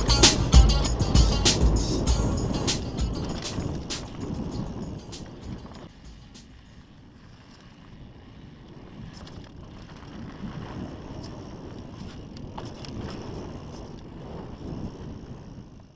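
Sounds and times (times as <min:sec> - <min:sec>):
bike clicks and rattles: 0:00.0 - 0:15.9
bike tyres rumbling on dirt: 0:00.0 - 0:15.9
wind buffeting microphone: 0:00.0 - 0:15.9.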